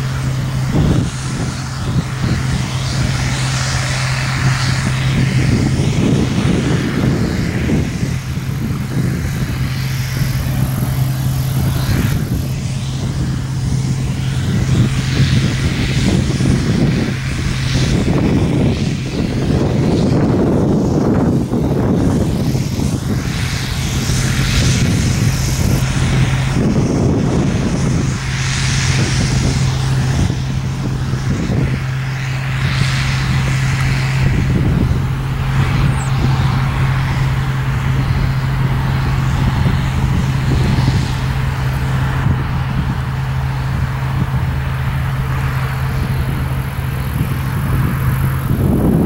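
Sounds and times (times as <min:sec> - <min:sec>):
engines humming low: 0:00.0 - 0:49.0
rushing noise: 0:00.0 - 0:49.0.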